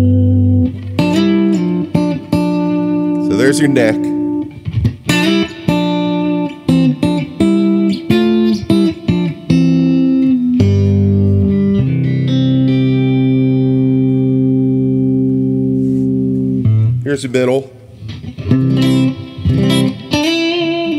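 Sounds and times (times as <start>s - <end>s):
electric guitar chords: 0.0s - 20.9s.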